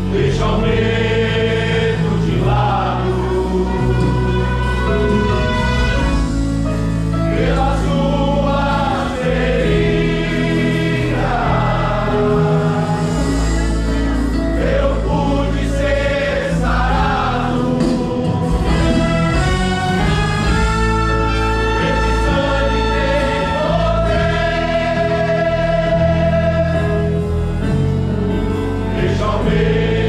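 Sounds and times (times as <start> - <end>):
gospel choir singing: 0.0 - 30.0
sustained instrumental accompaniment: 0.0 - 30.0.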